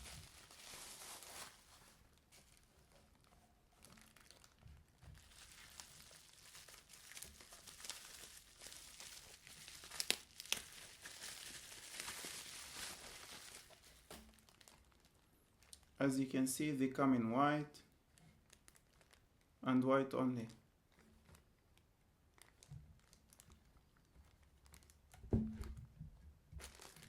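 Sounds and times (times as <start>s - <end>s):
packaging rustling and crinkling: 0.0s - 16.0s, 18.1s - 19.5s, 20.9s - 25.8s, 26.5s - 27.0s.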